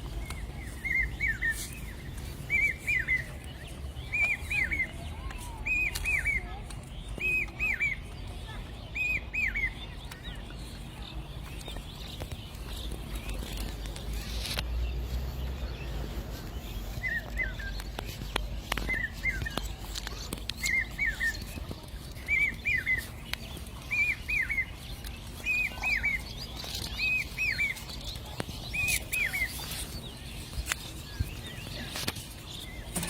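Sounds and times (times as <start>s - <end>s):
bird chirping: 0.0s - 33.0s.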